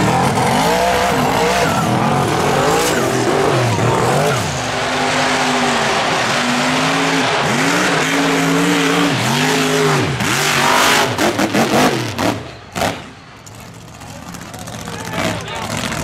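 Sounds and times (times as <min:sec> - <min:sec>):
loud rushing noise: 0:00.0 - 0:13.4
truck engine revving: 0:00.0 - 0:16.0.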